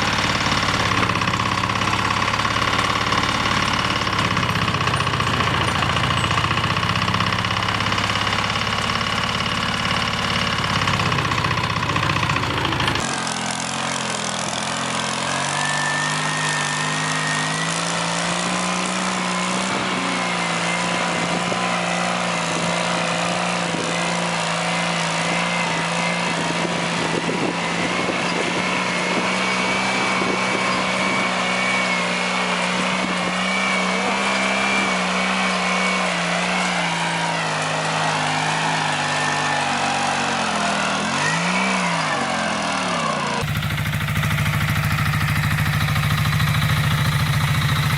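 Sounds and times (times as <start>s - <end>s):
engine pitch rising: 0.0s - 47.9s
small tractor engines running: 0.0s - 47.9s.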